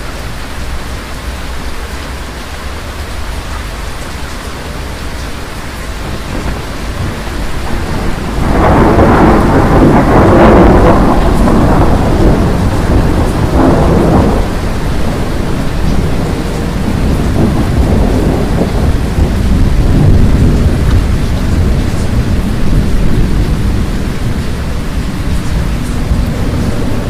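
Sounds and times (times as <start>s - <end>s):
steady rain: 0.0s - 27.0s
rolling thunder: 3.1s - 27.0s.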